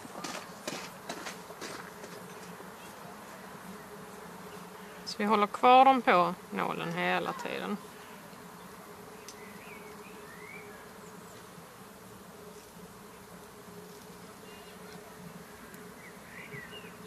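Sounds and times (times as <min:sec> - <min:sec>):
low buzzing hum: 0:00.0 - 0:17.0.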